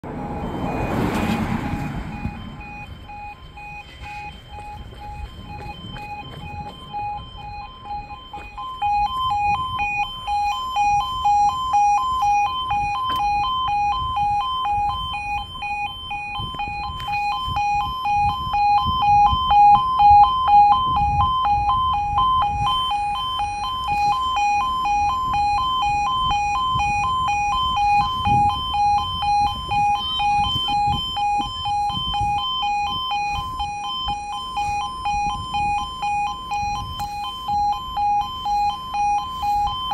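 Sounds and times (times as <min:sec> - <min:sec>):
level crossing alarm: 0:00.0 - 0:39.9.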